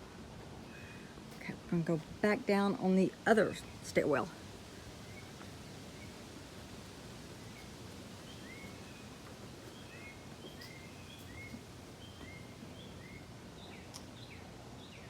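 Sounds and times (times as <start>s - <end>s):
outdoor background hiss: 0.0s - 15.0s
small birds chirping: 2.7s - 15.0s.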